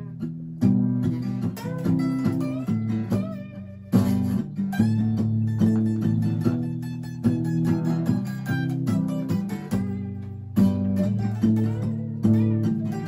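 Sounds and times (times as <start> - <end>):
acoustic guitar strumming chords: 0.0 - 13.0
guitar lead lines: 0.0 - 13.0.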